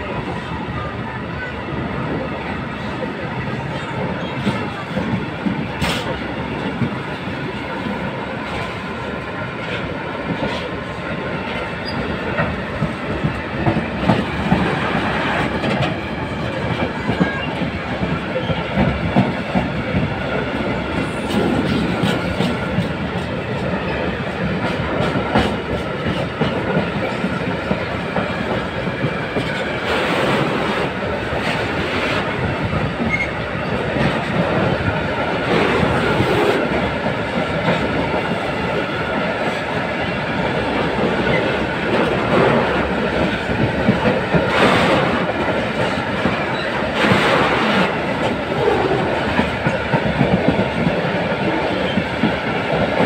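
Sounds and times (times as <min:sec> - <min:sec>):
freight train wheels clattering: 0:02.9 - 0:53.0.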